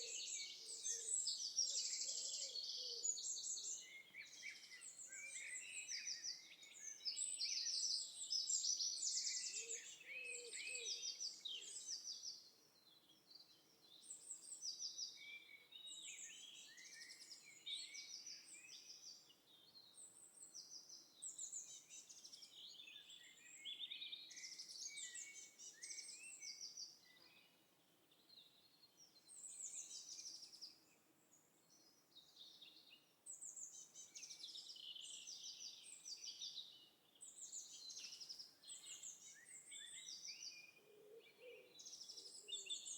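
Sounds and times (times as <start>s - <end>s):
songbirds chirping and trilling: 0.0s - 42.9s.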